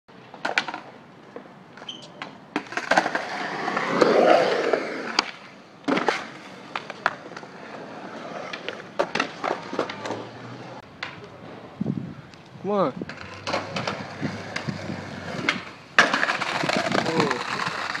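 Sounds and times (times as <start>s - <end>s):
skateboard wheels rolling on concrete: 0.1s - 18.0s
skateboard clacking on ground: 0.2s - 11.7s, 13.0s - 18.0s.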